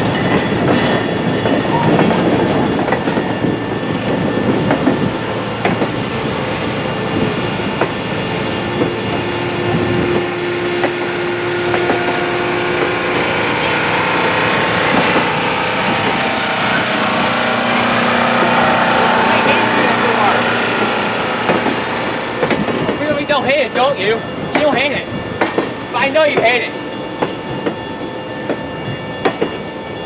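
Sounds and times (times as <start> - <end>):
wheels clicking over rail joints: 0.0 - 27.8
train rumbling on rails: 0.0 - 30.0.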